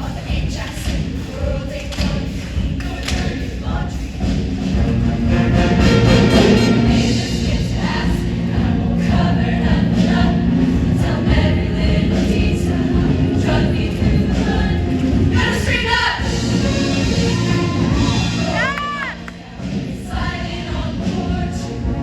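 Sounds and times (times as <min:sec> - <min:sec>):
backing music: 0:00.0 - 0:22.0
choir singing: 0:00.0 - 0:22.0.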